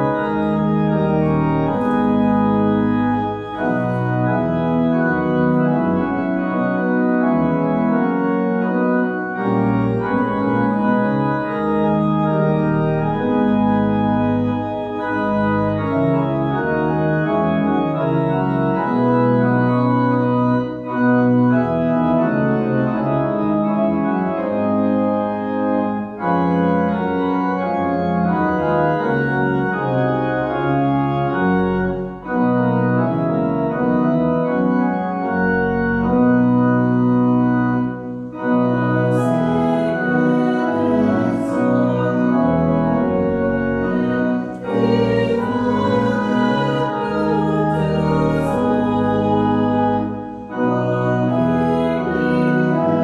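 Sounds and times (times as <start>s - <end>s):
church organ playing a hymn: 0.0s - 53.0s.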